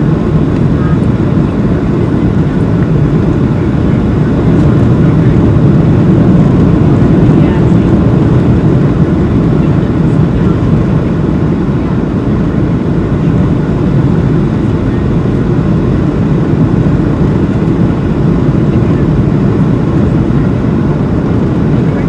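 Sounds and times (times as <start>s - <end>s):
airliner cabin engine roar: 0.0s - 22.0s.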